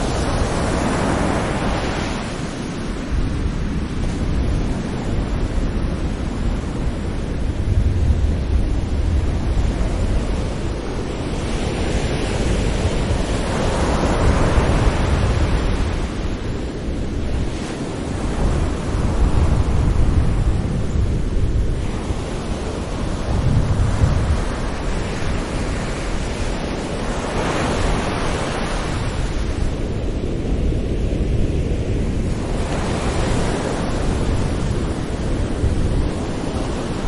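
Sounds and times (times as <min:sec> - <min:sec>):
sea waves breaking on shore: 0:00.0 - 0:37.0.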